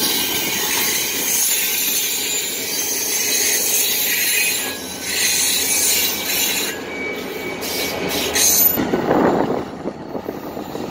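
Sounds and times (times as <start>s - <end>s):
train wheels squealing on rail: 0.0s - 10.9s.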